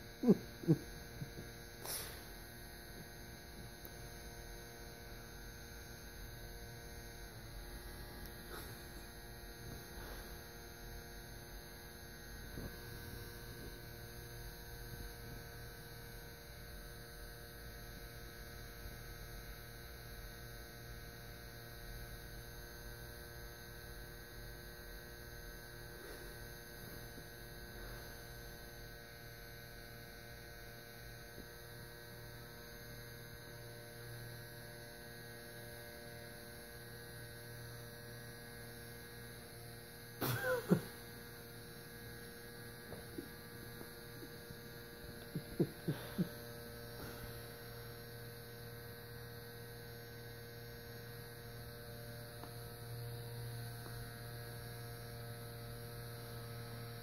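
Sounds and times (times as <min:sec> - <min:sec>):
electric nail file buzzing: 0:00.0 - 0:57.0.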